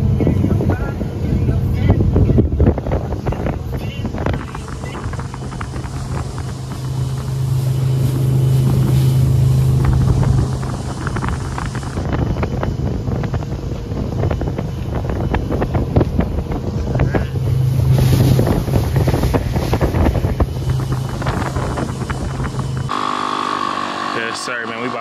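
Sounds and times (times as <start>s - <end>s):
wind buffeting microphone: 0.0s - 22.9s
speedboat engine running: 0.0s - 25.0s.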